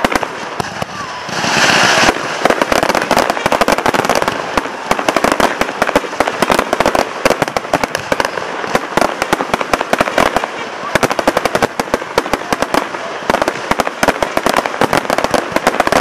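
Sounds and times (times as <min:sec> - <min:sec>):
fireworks cracking and banging: 0:00.0 - 0:16.0.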